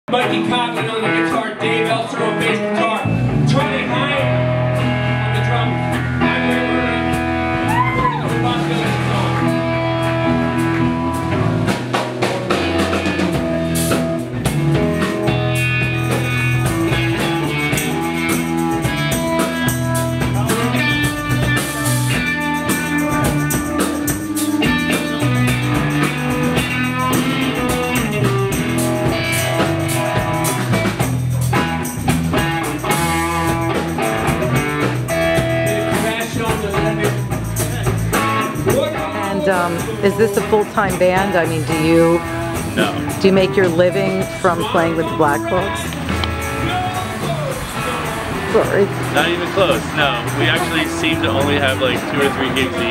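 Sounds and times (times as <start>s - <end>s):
bass guitar: 0.0s - 52.9s
drum kit: 0.1s - 52.9s
electric guitar: 0.1s - 52.9s.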